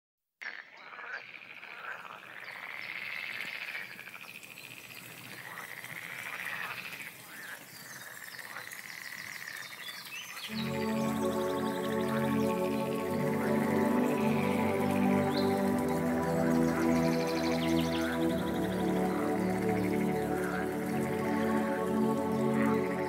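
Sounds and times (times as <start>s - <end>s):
frogs calling in chorus: 0.4s - 23.0s.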